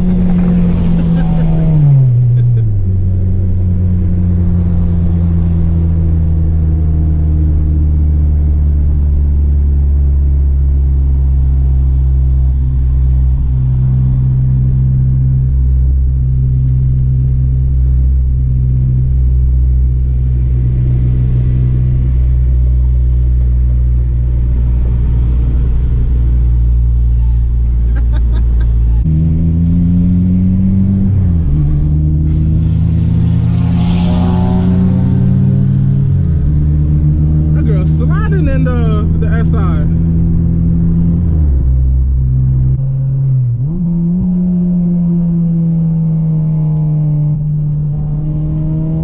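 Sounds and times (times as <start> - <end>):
car engine drone from inside: 0.0 - 49.0.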